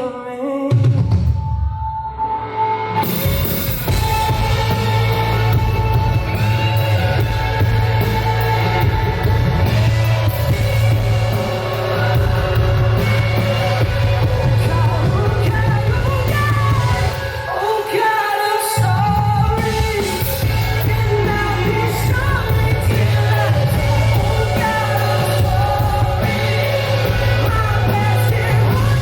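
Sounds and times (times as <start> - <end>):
man singing lead vocal: 0.0 - 3.2, 3.8 - 29.0
live pop-rock band: 0.0 - 29.0.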